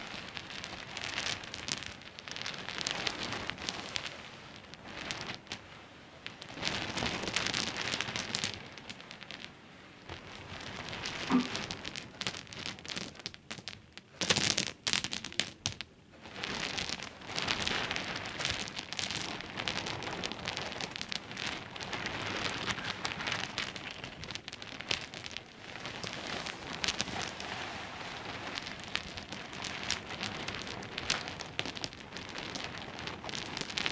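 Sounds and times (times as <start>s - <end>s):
pebbles clicking and rattling: 0.2s - 4.0s, 6.4s - 9.5s, 10.2s - 33.9s.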